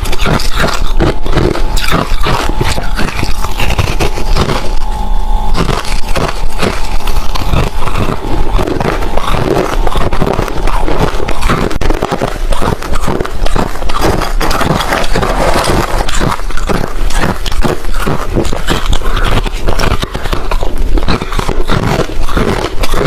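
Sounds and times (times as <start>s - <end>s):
ice being chewed: 0.0s - 23.0s.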